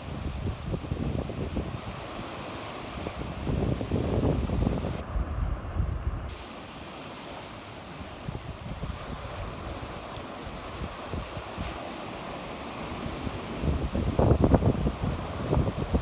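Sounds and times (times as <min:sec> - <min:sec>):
sea waves washing onto shore: 0:00.0 - 0:05.2, 0:06.3 - 0:16.0
wind rumbling on microphone: 0:00.0 - 0:11.8, 0:12.4 - 0:16.0.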